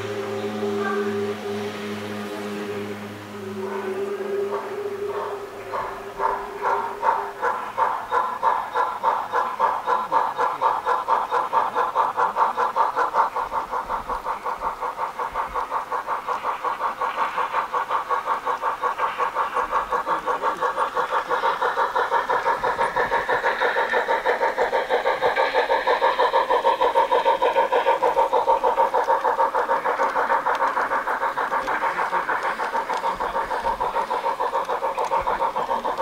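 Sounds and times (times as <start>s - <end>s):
steam chuff through loudspeaker: 0.0s - 36.0s.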